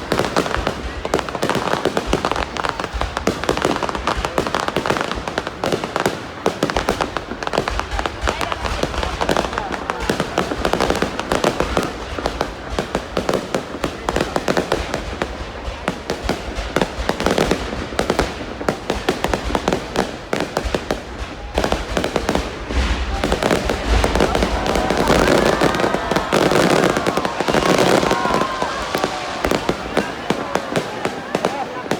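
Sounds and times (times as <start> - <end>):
fireworks bangs and crackles: 0.0 - 31.9.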